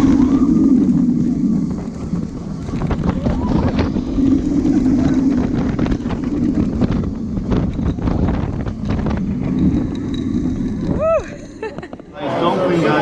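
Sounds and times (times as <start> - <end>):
low rumble: 0.0 - 13.0
wind buffeting microphone: 0.0 - 13.0.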